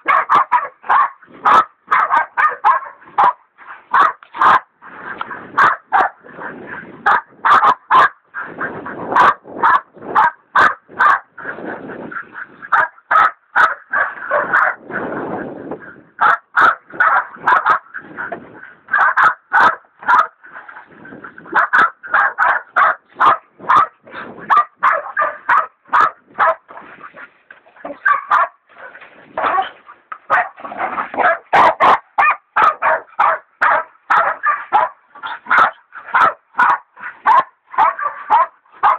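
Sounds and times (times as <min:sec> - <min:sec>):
dogs barking rapidly: 0:00.0 - 0:15.1, 0:16.1 - 0:38.9.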